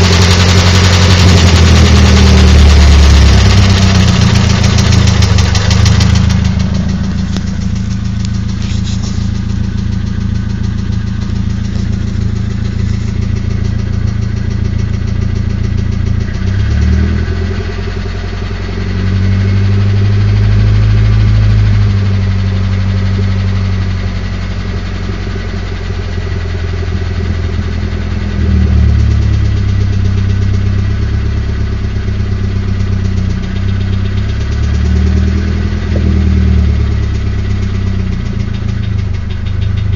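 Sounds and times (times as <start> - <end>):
car engine idling: 0.0 - 39.9
engine knocking and tapping: 0.0 - 39.9.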